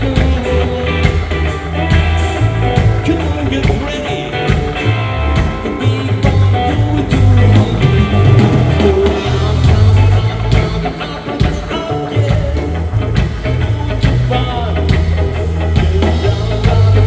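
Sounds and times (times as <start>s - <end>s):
drum kit: 0.0s - 17.0s
electric guitar: 0.0s - 17.0s
pulsing bass line: 0.0s - 17.0s.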